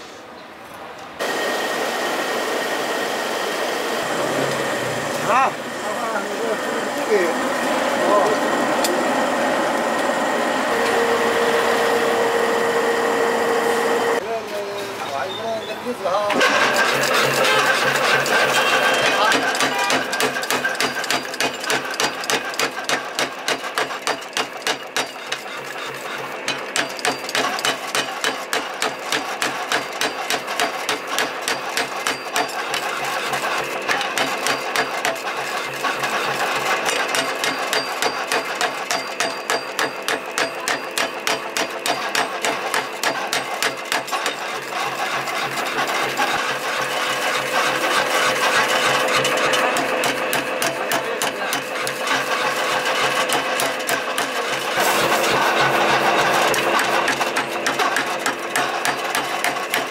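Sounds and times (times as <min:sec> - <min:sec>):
power hammer pounding hot steel: 0:01.2 - 0:14.2, 0:16.3 - 0:59.9.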